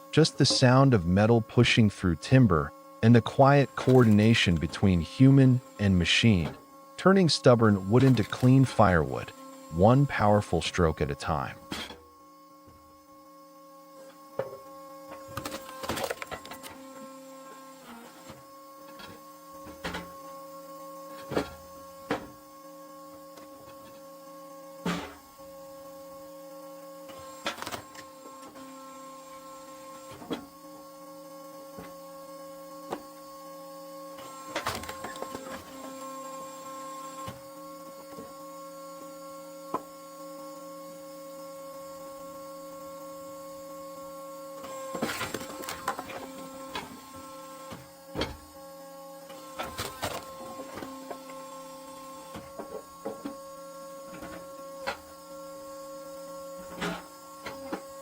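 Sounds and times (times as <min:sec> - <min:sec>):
hydraulic wood splitter humming: 0:00.0 - 0:26.2, 0:26.8 - 0:31.0, 0:31.6 - 0:40.2, 0:41.5 - 0:58.0.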